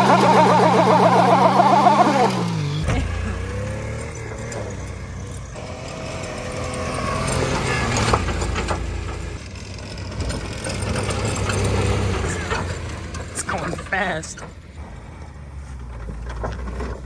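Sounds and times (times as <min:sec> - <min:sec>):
small truck engine running: 0:00.0 - 0:17.0.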